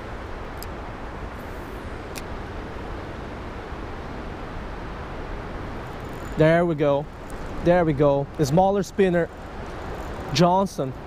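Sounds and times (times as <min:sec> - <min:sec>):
creek water flowing: 0:00.0 - 0:11.0
wind: 0:00.0 - 0:11.0.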